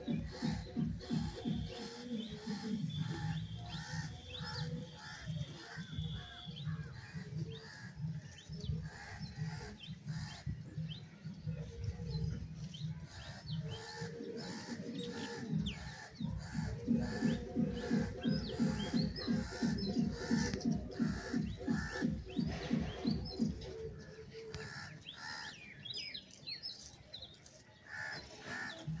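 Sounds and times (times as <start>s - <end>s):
low rhythmic pulsing: 0.0s - 25.8s
small birds chirping: 0.0s - 29.0s.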